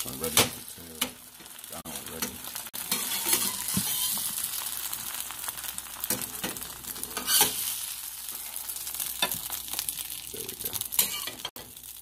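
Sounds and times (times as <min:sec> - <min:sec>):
tortillas sizzling in a pan: 0:00.0 - 0:12.0.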